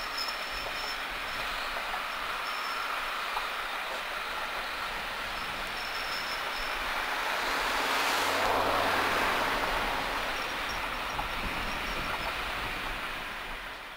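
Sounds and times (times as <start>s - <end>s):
train coaches rolling on track: 0.0s - 13.9s.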